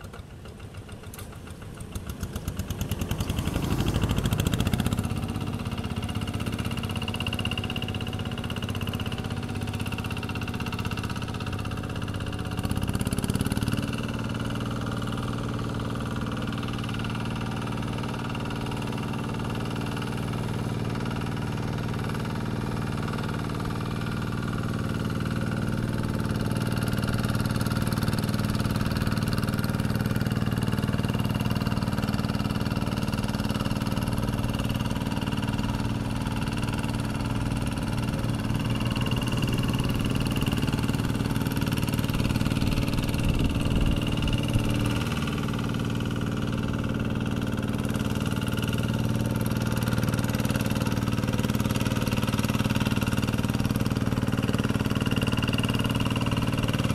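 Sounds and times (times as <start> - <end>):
diesel hand tractor running: 0.0 - 56.9
engine knocks: 0.0 - 56.9.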